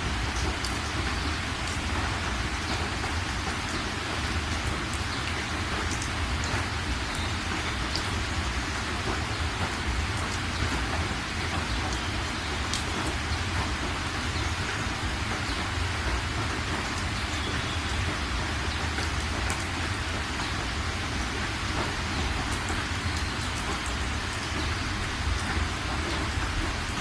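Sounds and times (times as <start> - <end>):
raindrops ticking nearby: 0.0 - 27.0
steady rain: 0.0 - 27.0.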